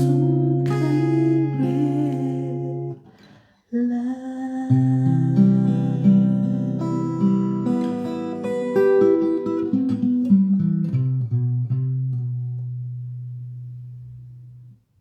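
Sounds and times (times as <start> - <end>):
acoustic guitar plucked notes: 0.0 - 3.2, 4.7 - 14.7.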